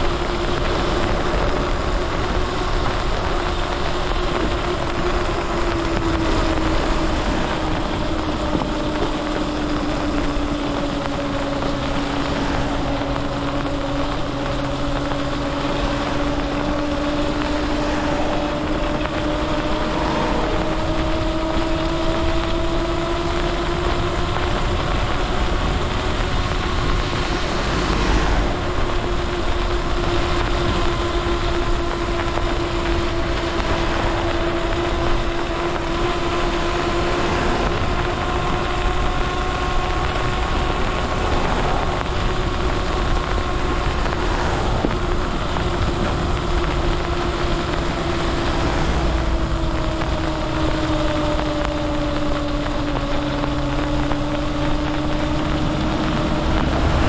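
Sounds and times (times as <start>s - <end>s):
electric motor whining: 0.0s - 57.0s
tyres hissing on wet road: 0.0s - 57.0s
wind: 0.0s - 57.0s.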